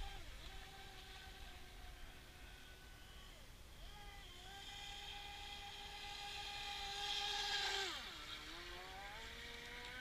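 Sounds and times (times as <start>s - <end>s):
rc speedboat motor whine: 0.0s - 10.0s.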